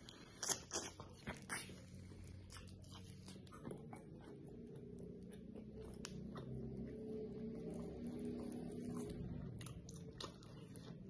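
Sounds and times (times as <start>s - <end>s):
low steady hum: 0.0s - 11.0s
person chewing wetly: 0.0s - 11.0s.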